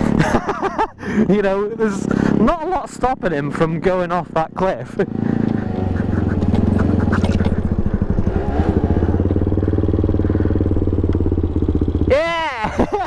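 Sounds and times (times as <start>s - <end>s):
small motorcycle engine idling: 0.0s - 13.0s.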